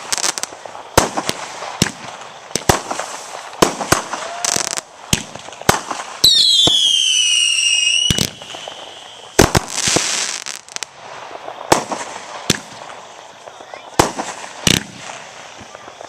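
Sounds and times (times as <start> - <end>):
crackling hiss: 0.0 - 16.0
falling firework whistle: 0.0 - 16.0
fireworks banging: 0.0 - 16.0.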